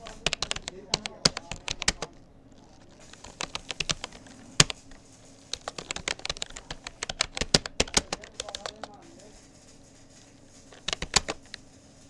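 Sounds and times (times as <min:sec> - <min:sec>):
computer keyboard typing clicks: 0:00.0 - 0:09.0, 0:10.6 - 0:11.6.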